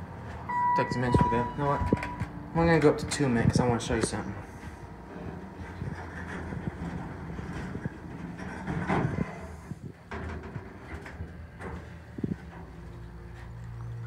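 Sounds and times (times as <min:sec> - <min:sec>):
elevator doors sliding shut: 0:00.0 - 0:13.6
steady low hum: 0:00.0 - 0:14.0.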